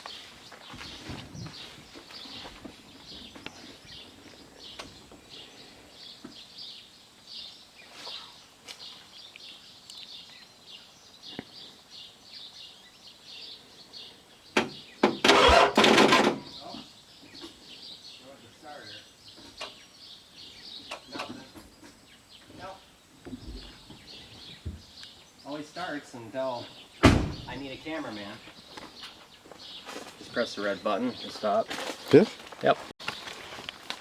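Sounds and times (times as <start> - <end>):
birds chirping: 0.0 - 33.4.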